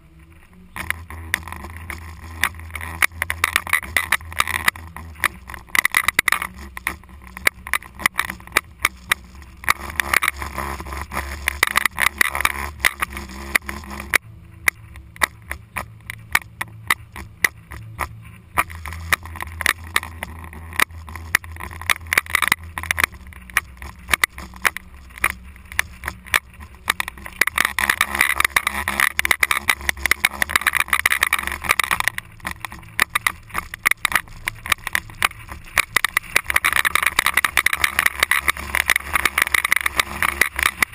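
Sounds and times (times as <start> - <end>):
engine low rumble: 0.0 - 40.9
clicks and knocks from rough ride: 0.3 - 40.9.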